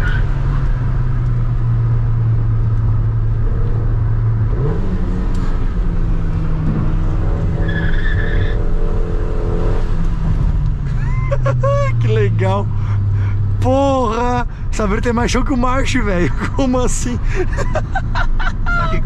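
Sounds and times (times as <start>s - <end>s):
pickup engine droning: 0.0s - 19.0s.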